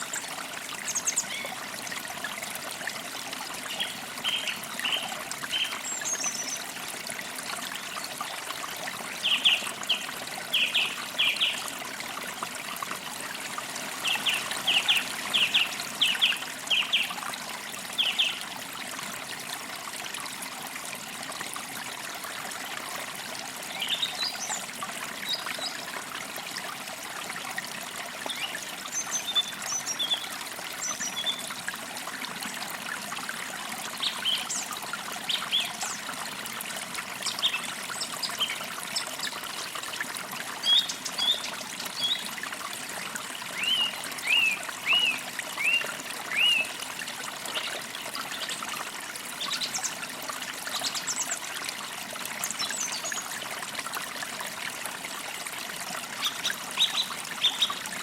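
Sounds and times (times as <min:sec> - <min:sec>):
creek trickling over stones: 0:00.0 - 0:58.0.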